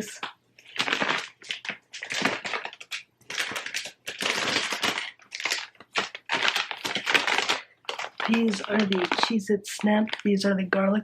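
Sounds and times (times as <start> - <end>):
plastic bags crinkling: 0.0 - 10.6.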